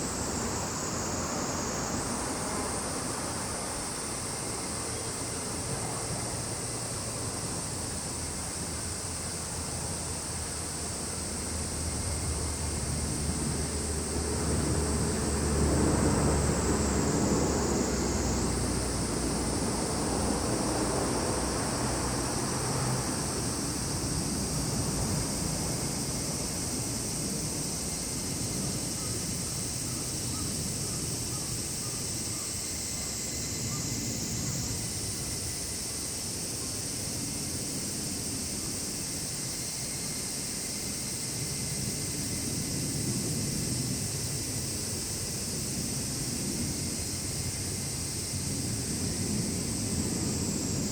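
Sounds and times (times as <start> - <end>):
cicadas singing: 0.0 - 50.9.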